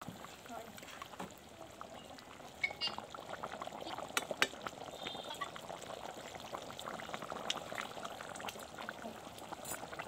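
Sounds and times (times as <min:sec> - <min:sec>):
gravy bubbling with small pops: 0:00.0 - 0:10.0.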